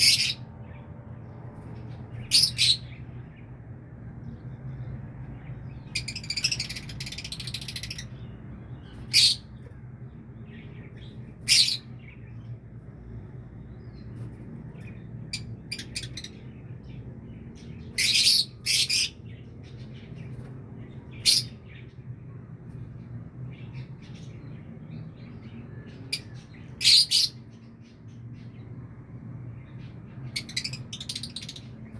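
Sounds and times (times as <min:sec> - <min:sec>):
birds chirping: 0:00.0 - 0:31.9
steady low hum: 0:00.0 - 0:31.9.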